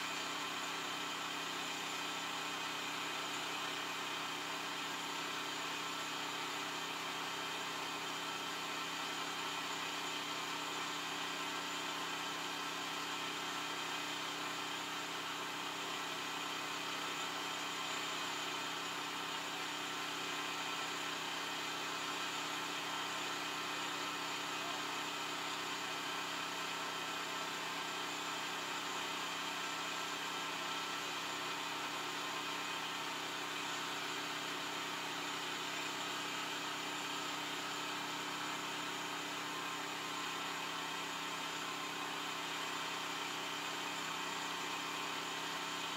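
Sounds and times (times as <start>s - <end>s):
tractor diesel engine idling: 0.1s - 45.9s.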